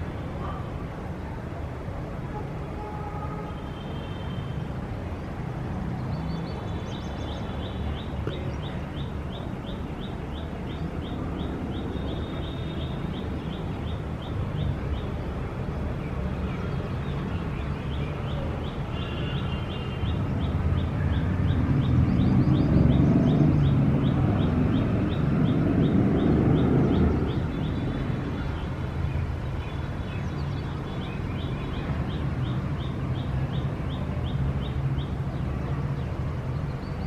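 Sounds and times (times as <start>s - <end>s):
city traffic rumble: 0.0s - 37.0s.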